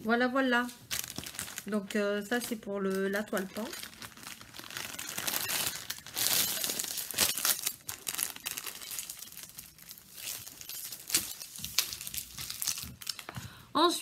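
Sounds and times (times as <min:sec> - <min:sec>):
plastic packaging crinkling: 0:00.5 - 0:13.6.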